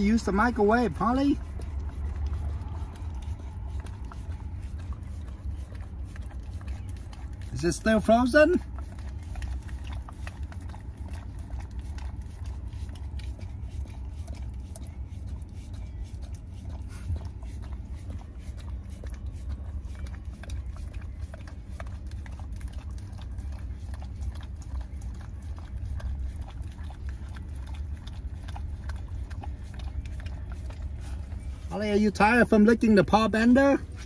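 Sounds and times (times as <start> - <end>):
dog licking and slurping: 0.0 - 34.0
steady low hum: 0.0 - 34.0.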